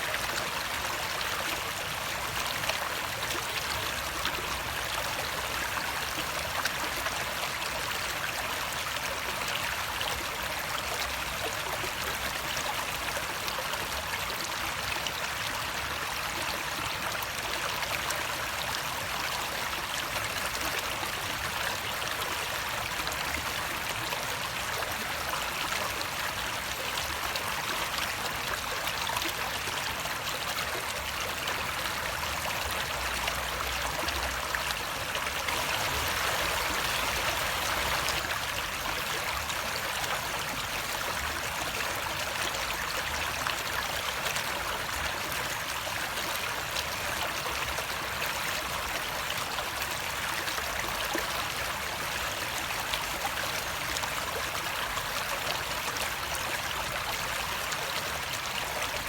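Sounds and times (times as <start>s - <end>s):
stream water flowing and trickling: 0.0s - 59.0s.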